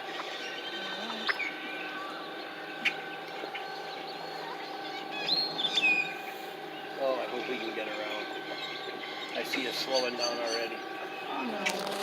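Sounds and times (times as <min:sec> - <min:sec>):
birds chirping: 0:00.0 - 0:12.0
electric boat motor hum: 0:00.0 - 0:12.0.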